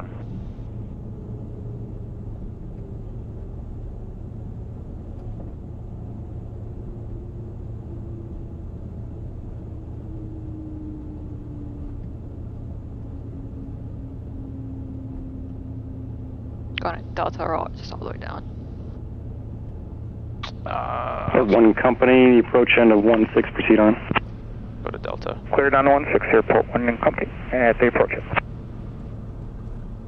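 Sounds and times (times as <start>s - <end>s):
faint whine falling in pitch: 0.0s - 17.9s, 18.6s - 30.0s
aircraft engine and propeller: 0.0s - 30.0s.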